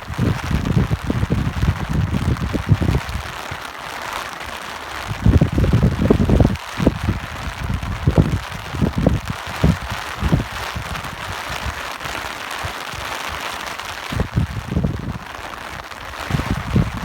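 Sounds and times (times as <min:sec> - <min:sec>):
gusting wind: 0:00.0 - 0:17.0
rain hissing: 0:00.0 - 0:17.0.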